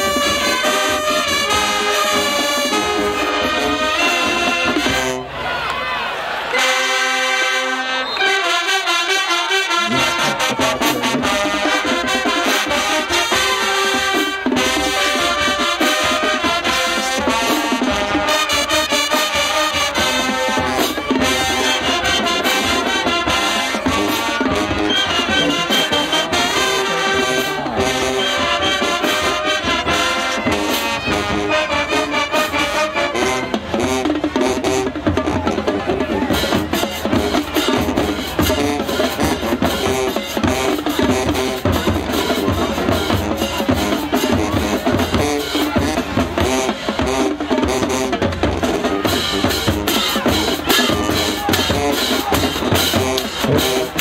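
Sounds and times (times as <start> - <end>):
steady drum beat: 0.0 - 5.2, 9.7 - 54.0
marching band playing: 0.0 - 54.0.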